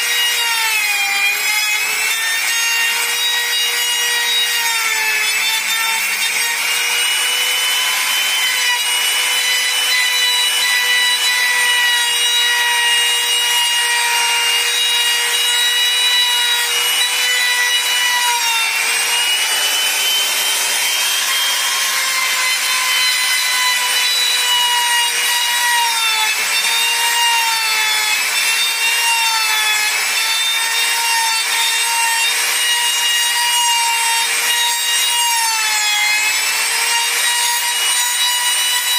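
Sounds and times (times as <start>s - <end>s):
router whining: 0.0s - 38.9s.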